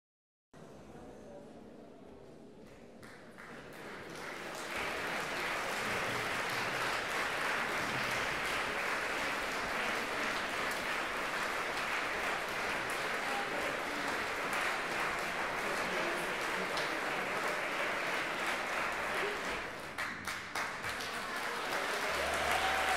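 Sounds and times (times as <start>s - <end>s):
audience applauding: 3.0s - 22.9s.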